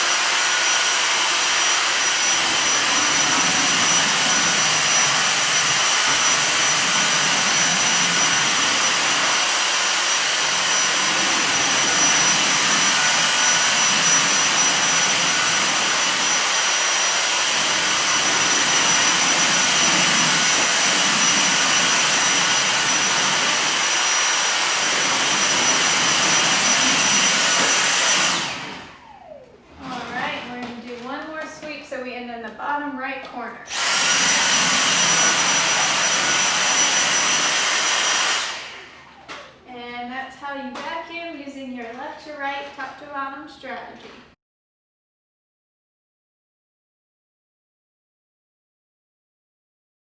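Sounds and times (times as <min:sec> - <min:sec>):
vacuum cleaner running: 0:00.0 - 0:43.2.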